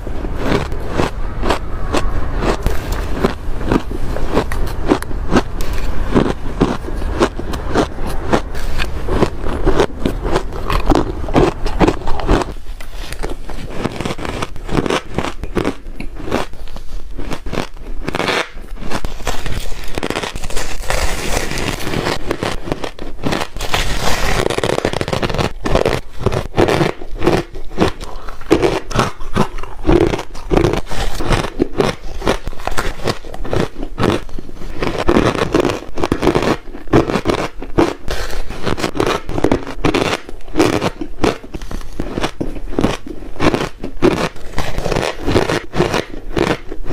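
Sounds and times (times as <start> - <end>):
chewing ice crunching: 0.2 - 46.9.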